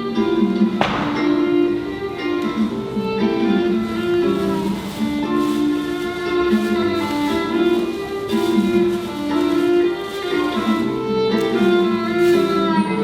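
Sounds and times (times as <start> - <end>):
steady musical accompaniment: 0.0 - 13.0.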